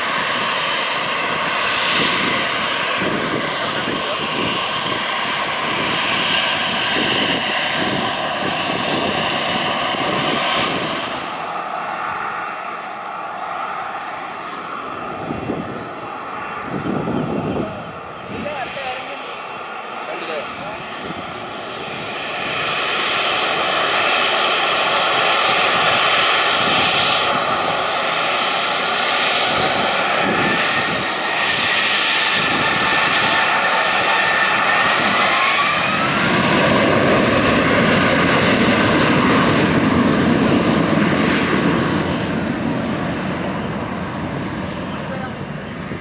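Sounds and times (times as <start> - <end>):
deep engine rumble: 0.0 - 46.0
jet engines whining: 0.0 - 46.0.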